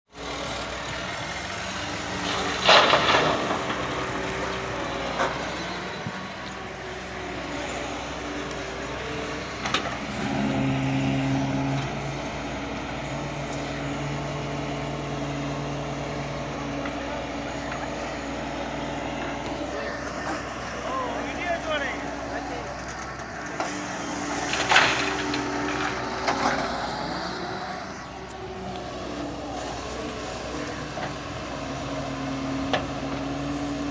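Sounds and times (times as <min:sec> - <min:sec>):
excavator diesel engine: 0:00.1 - 0:33.9.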